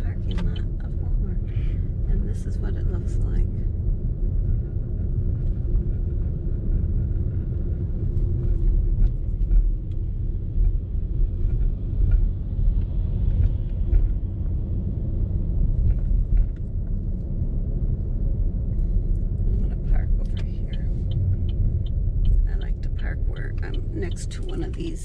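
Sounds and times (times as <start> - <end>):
car rolling low rumble: 0.0 - 25.0.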